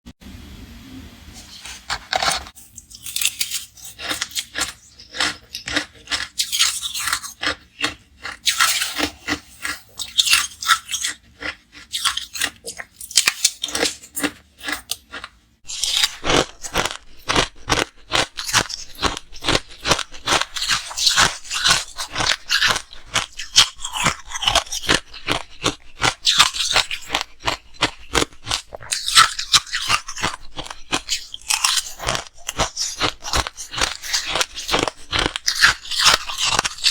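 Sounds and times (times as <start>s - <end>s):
ice being chewed: 2.2s - 36.9s.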